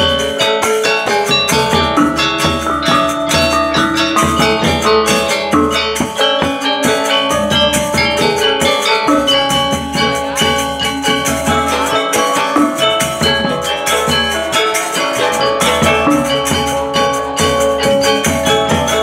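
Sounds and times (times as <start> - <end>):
bronze metallophones ringing: 0.0 - 19.0
drum strokes: 0.0 - 19.0.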